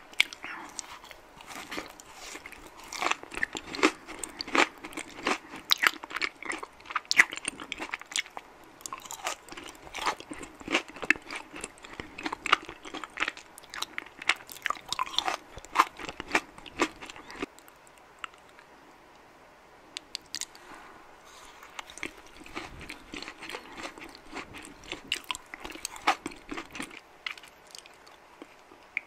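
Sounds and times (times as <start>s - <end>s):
chocolate chewing crunches: 0.1s - 18.6s, 21.7s - 28.9s.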